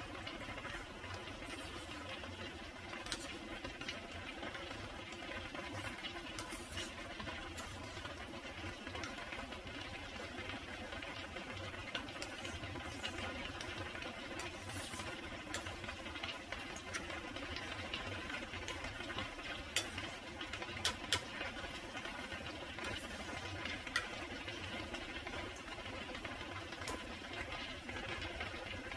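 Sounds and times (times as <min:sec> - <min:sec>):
spatula stirring thick sauce: 0:00.0 - 0:28.9.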